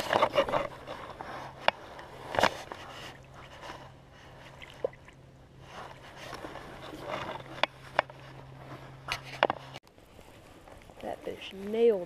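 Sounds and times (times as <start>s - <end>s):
rustling against clothing: 0.0s - 12.0s.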